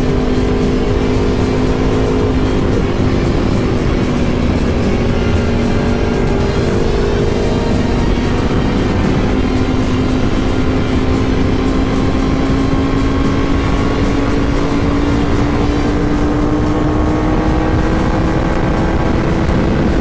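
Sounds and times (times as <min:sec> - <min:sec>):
motorcycle engine accelerating: 0:00.0 - 0:20.0
wind rush: 0:00.0 - 0:20.0.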